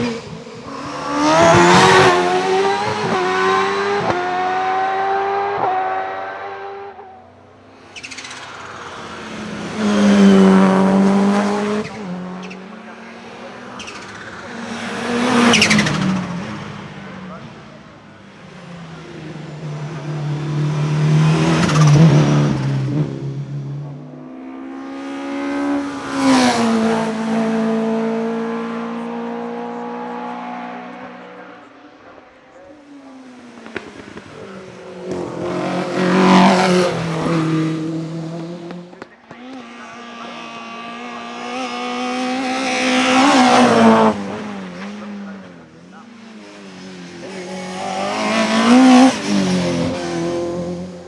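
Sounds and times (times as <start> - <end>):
race car engines passing: 0.0 - 51.0.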